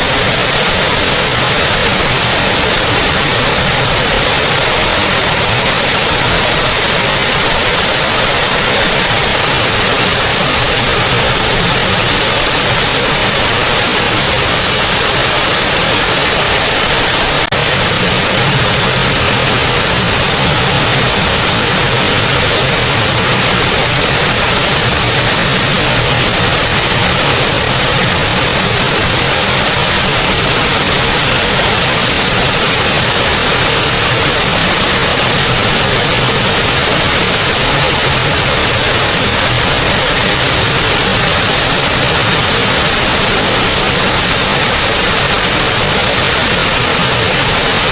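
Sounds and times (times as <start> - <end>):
small waterfall rushing: 0.0 - 47.9.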